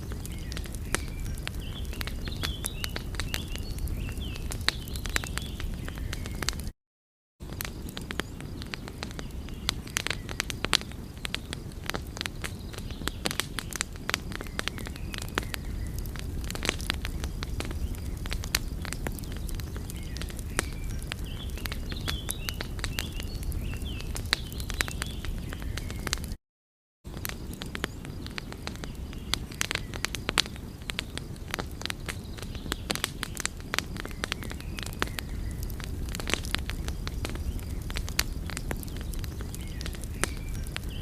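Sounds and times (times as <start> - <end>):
wood fire crackling: 0.0 - 6.7, 7.4 - 26.4, 27.1 - 41.0.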